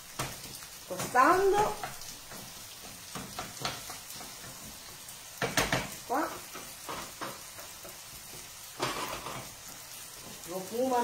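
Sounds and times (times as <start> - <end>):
almonds sizzling in hot oil: 0.0 - 11.0
wooden spoon scraping a pan: 0.1 - 11.0.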